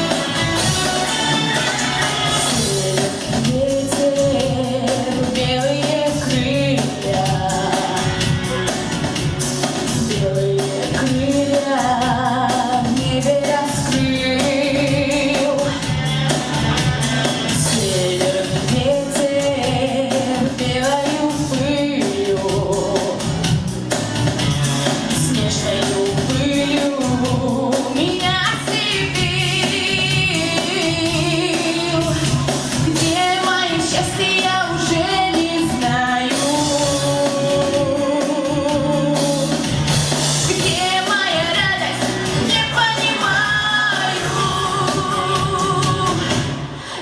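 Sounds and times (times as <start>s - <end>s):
woman singing pop song: 0.0s - 23.6s, 25.0s - 47.0s
instrumental accompaniment with beat: 0.0s - 47.0s.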